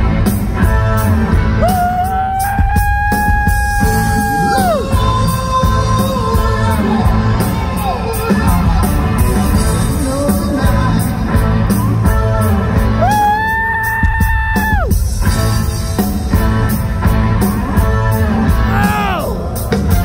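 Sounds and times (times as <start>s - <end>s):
live rock band: 0.0s - 20.0s.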